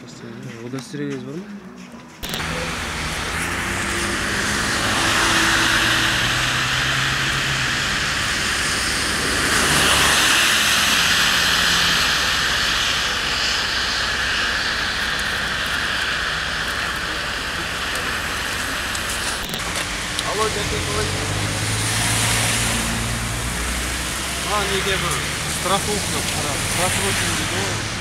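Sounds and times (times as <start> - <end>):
rushing vehicle noise: 2.2 - 28.0.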